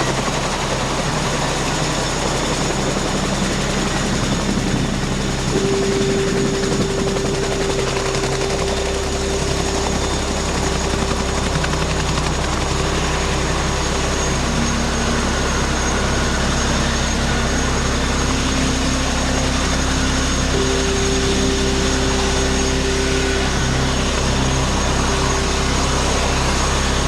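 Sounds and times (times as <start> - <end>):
helicopter rotor beat: 0.0 - 27.0
turbine engine whine: 0.0 - 27.0.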